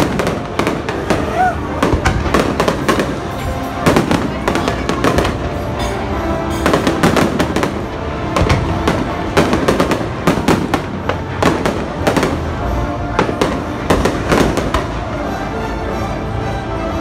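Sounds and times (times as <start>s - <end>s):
fireworks bangs and crackles: 0.0s - 16.0s
music playing: 0.0s - 17.0s.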